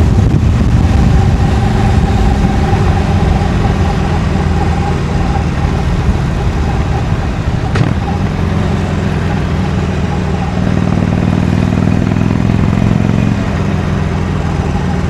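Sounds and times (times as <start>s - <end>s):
motorcycle engine running: 0.0s - 15.0s
wind rushing: 0.0s - 15.0s.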